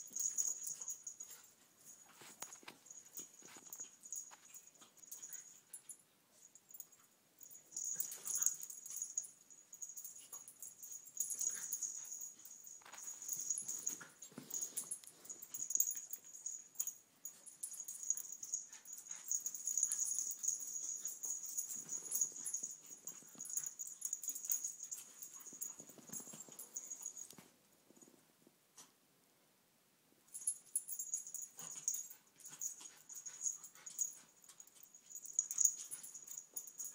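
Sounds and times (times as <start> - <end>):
small dogs play noises: 0.0 - 28.2, 30.4 - 36.9.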